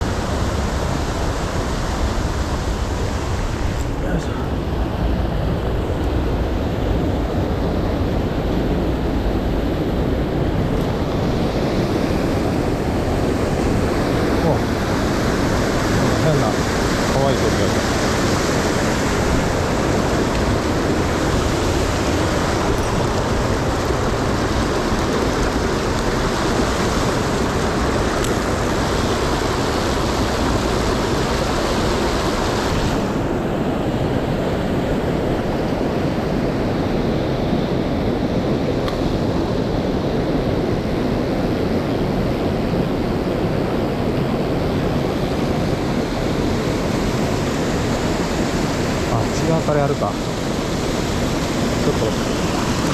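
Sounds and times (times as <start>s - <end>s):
fast-flowing mountain stream: 0.0s - 52.9s.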